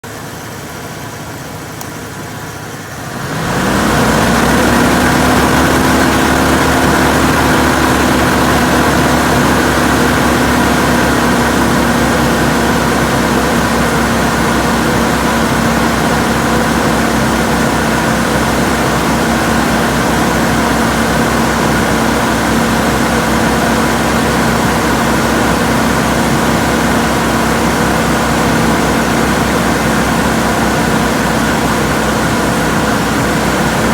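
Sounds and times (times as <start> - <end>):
motor humming: 0.0 - 33.9
rushing noise: 2.4 - 33.9.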